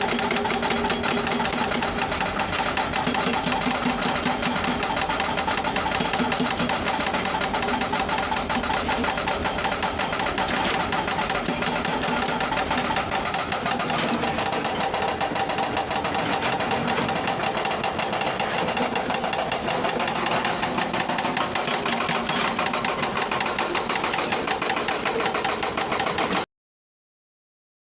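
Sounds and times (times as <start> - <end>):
excavator machinery clattering: 0.0 - 26.5.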